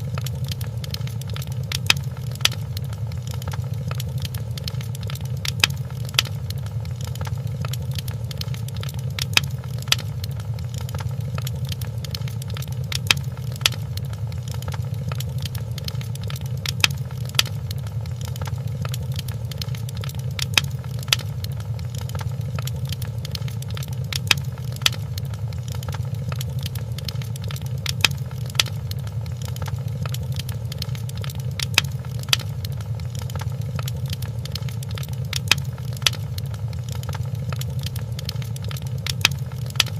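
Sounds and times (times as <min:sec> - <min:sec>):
fire low rumble: 0:00.0 - 0:39.9
wood fire crackling pops: 0:00.0 - 0:39.9.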